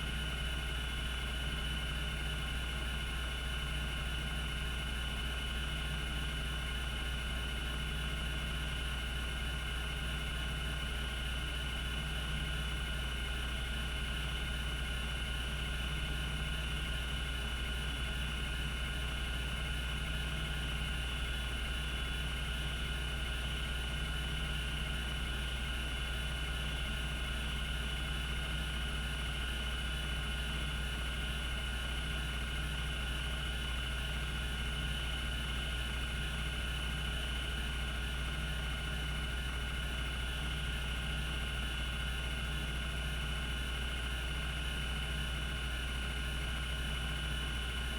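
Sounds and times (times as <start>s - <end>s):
hard disk spinning hum and whine: 0.0s - 47.9s.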